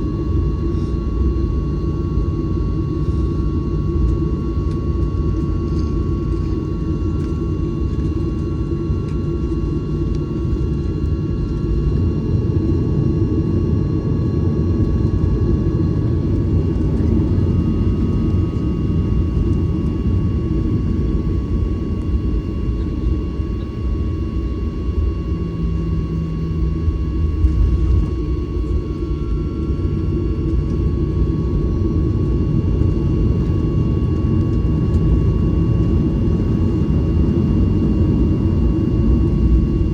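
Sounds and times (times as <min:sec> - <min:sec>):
jet engine rumble in cabin: 0:00.0 - 0:39.9
thin steady whine: 0:00.0 - 0:39.9.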